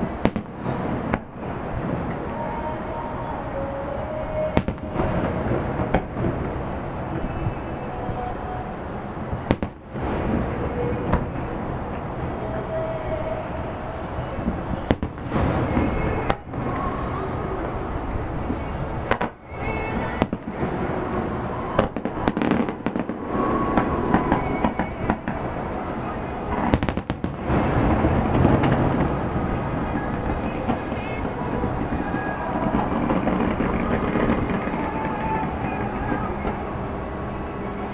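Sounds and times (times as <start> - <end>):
firework bangs: 0.0 - 3.0, 3.9 - 8.3, 9.2 - 13.3, 14.1 - 37.9
crackling rumble: 0.0 - 37.9.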